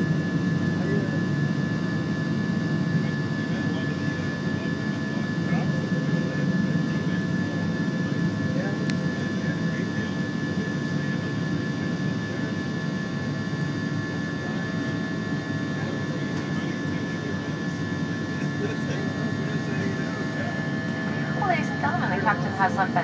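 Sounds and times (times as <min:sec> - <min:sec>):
jet engine rumble in cabin: 0:00.0 - 0:23.0
thin steady whine: 0:00.0 - 0:23.0.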